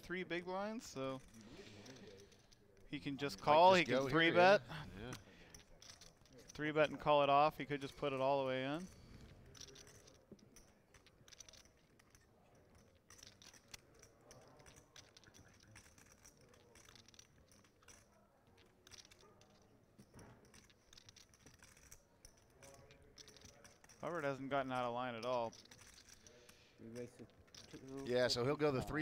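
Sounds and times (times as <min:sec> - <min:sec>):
poker chips clicking: 0:00.0 - 0:28.3.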